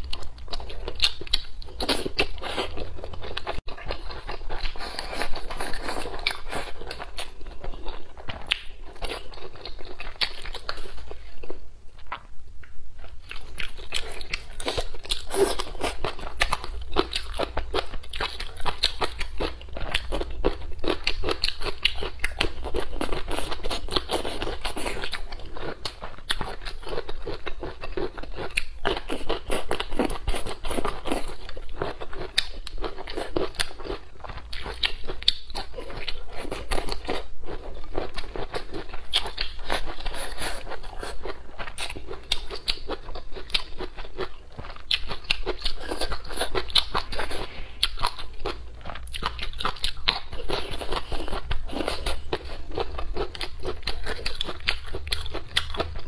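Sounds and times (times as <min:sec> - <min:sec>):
chewing and biting food: 0:00.0 - 0:56.0.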